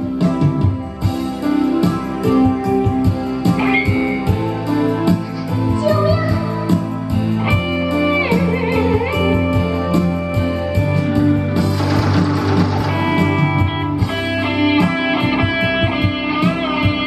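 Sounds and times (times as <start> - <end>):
instrumental music with guitar: 0.0 - 17.0.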